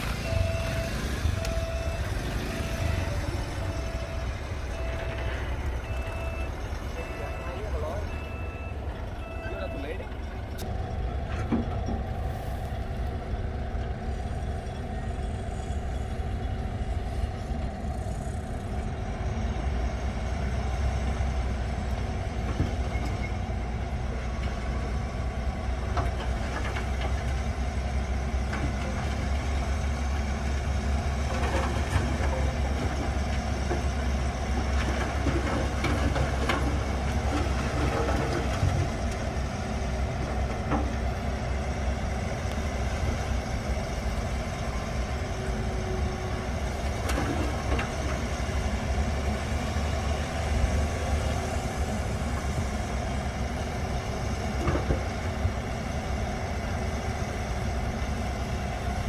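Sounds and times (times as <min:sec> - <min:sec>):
dump truck engine rumble: 0:00.0 - 0:59.0.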